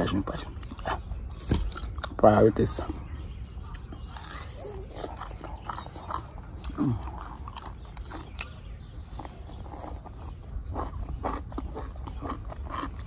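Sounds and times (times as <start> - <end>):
person chewing mango: 0.4 - 2.2, 2.8 - 13.0.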